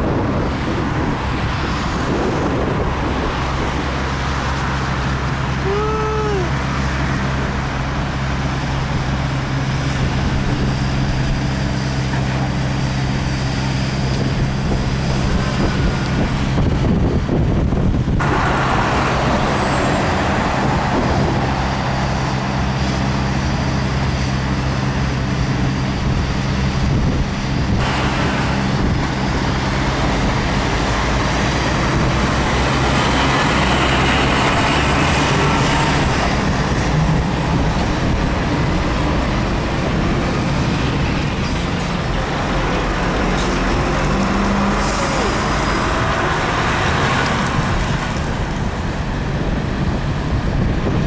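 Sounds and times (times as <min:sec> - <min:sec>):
rushing traffic noise: 0:00.0 - 0:51.0
truck engines droning: 0:00.0 - 0:51.0.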